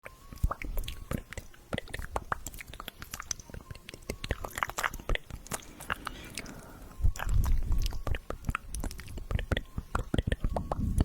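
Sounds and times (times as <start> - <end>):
wet mouth clicks and lip smacks: 0.0 - 11.0.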